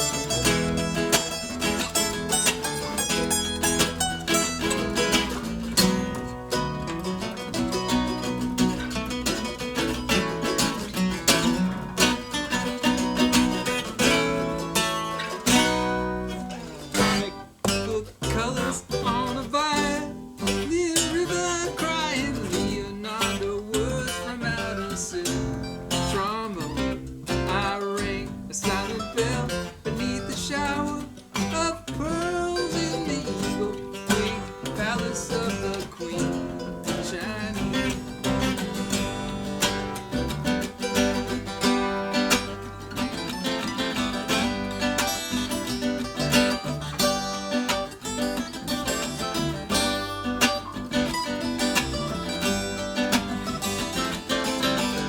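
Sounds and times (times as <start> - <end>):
picked guitar lead lines: 0.0 - 55.0
strummed acoustic guitar: 0.0 - 55.0.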